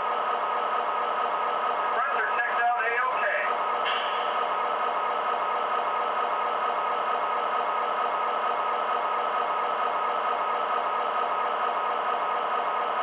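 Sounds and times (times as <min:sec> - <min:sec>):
diesel locomotive sound from speaker: 0:00.0 - 0:13.0.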